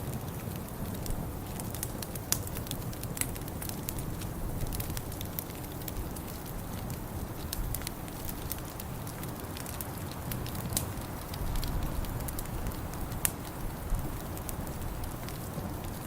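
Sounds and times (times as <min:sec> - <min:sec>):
wood fire crackling: 0:00.0 - 0:16.0
sharp pops and snaps: 0:00.2 - 0:16.0.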